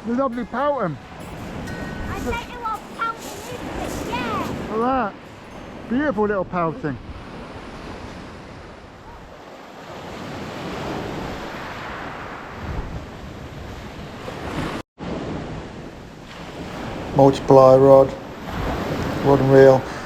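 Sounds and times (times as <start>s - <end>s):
wind buffeting microphone: 0.0s - 17.5s, 18.1s - 20.0s
sea surf washing onto beach: 0.0s - 20.0s.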